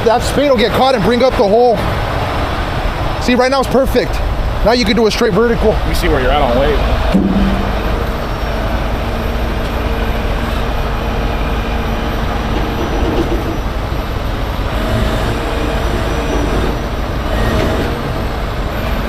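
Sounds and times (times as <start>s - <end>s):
diesel engine and hydraulics rumbling: 0.0s - 19.0s
faint steady whine: 2.4s - 19.0s.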